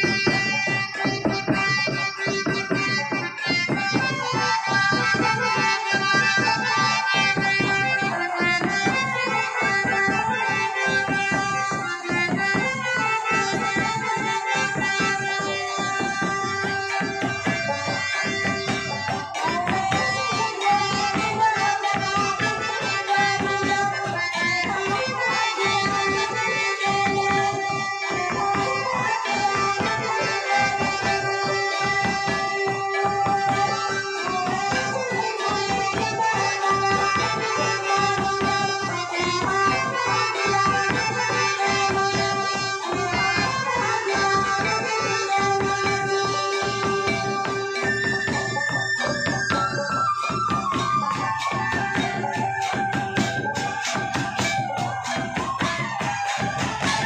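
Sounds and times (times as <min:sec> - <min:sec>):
instrument holding a long note: 0:00.0 - 0:57.0
steady drum beat: 0:00.0 - 0:57.0.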